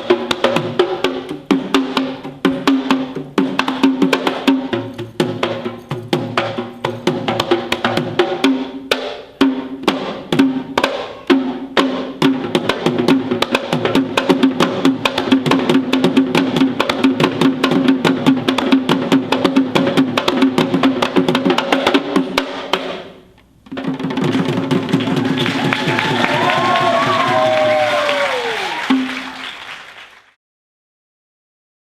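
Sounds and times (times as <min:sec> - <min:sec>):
drums played fast: 0:00.0 - 0:29.6.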